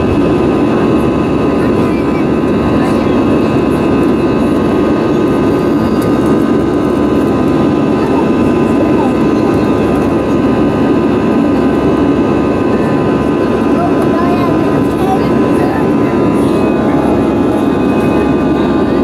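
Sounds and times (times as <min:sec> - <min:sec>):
faint steady whining tones: 0:00.0 - 0:19.0
jet engines and rushing air: 0:00.0 - 0:19.0.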